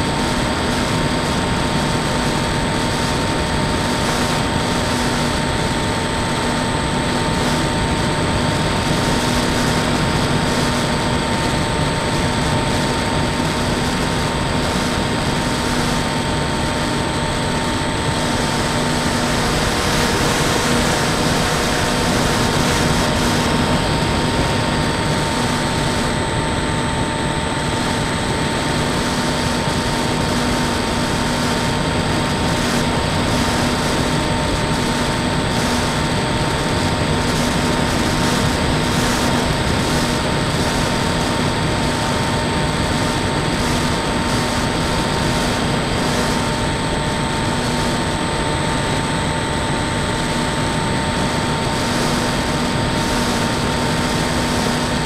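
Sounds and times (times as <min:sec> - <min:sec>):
electric motor propeller whine: 0:00.0 - 0:55.0.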